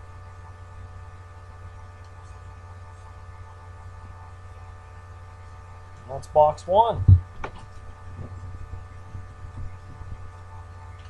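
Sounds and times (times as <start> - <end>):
faint whining tones: 0.0 - 11.0
low electrical hum: 0.0 - 11.0.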